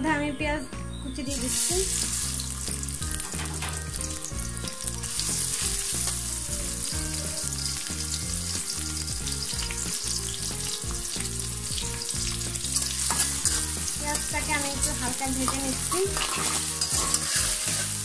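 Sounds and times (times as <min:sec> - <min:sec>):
onion sizzling in hot oil: 0:01.3 - 0:18.0.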